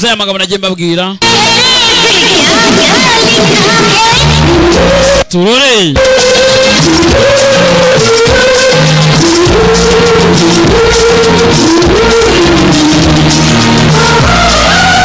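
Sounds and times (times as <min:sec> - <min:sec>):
film song playing loudly: 0:01.2 - 0:05.3, 0:06.0 - 0:15.0.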